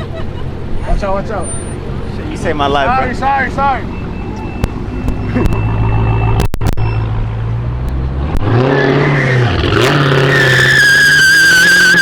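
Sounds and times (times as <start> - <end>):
tires squealing: 0.0 - 7.2, 8.1 - 12.0
truck engine revving: 0.0 - 12.0.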